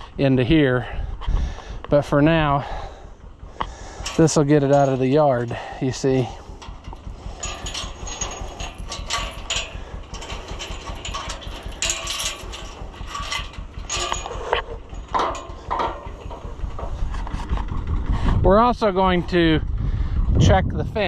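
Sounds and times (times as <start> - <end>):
metallic clanks and rattles: 0.0 - 19.6
tractor engine rumble: 0.0 - 21.0.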